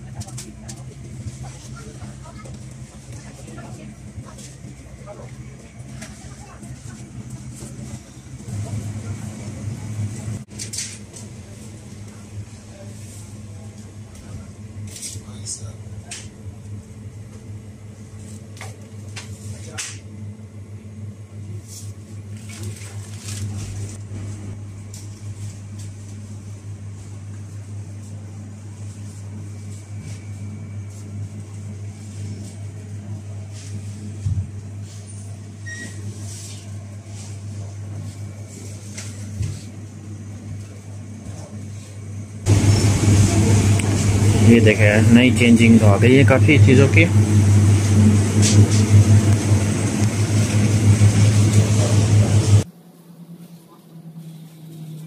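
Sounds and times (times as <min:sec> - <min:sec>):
refrigeration hum: 0:00.0 - 0:55.0.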